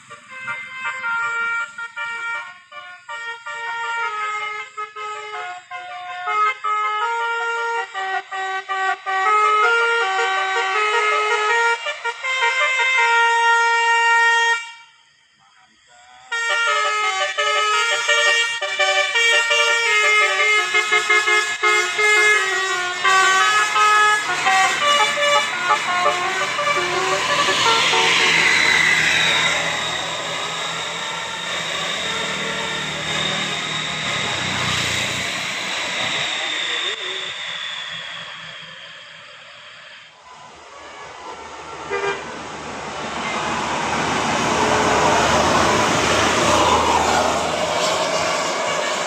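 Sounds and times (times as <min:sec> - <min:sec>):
multi-tone air horn melody: 0:00.0 - 0:15.0, 0:16.3 - 0:38.6, 0:40.7 - 0:49.0.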